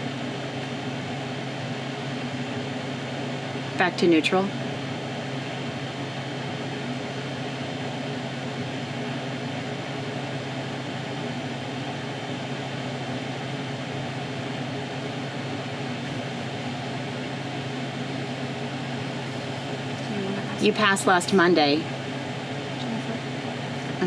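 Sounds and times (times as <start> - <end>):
appliance humming with hiss: 0.0 - 24.0.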